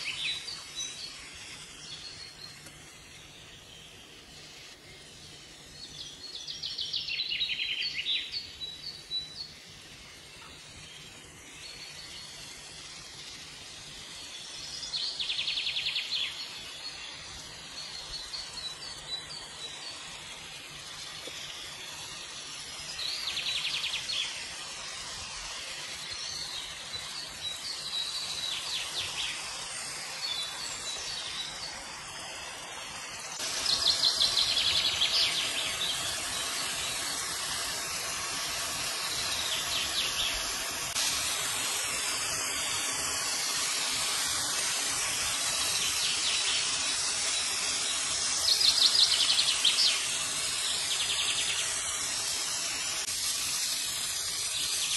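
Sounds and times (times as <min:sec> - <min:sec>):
chicken sizzling in oil: 0:00.0 - 0:54.9.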